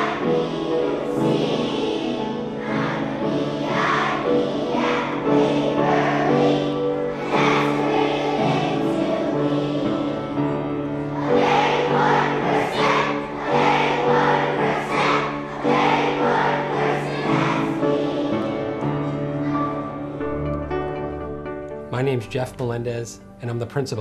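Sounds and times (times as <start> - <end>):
choir singing: 0.0 - 20.5
musical accompaniment: 0.0 - 24.0.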